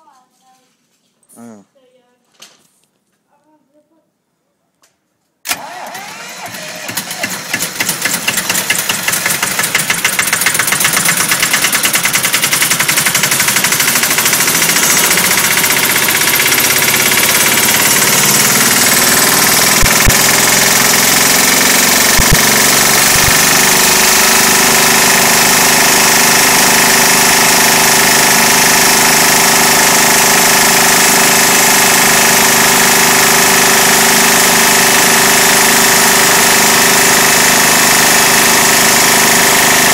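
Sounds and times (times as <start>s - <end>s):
diesel engine running: 5.5s - 39.9s
electric starter cranking: 5.5s - 39.9s.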